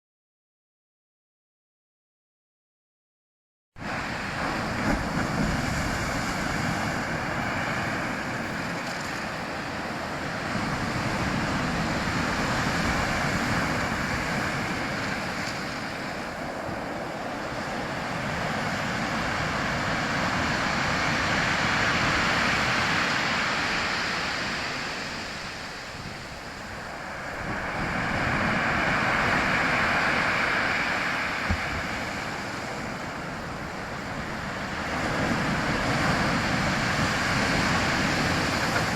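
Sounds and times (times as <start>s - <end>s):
rushing water and wind: 3.8s - 38.9s.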